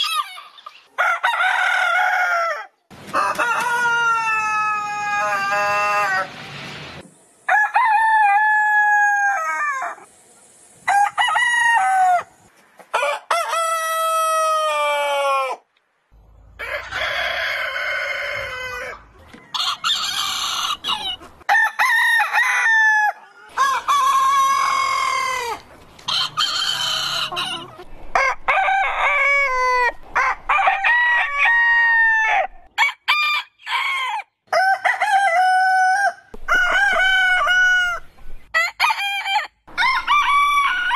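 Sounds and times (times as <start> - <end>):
roosters crowing: 0.0 - 6.4, 7.4 - 10.1, 10.8 - 15.7, 16.4 - 40.9.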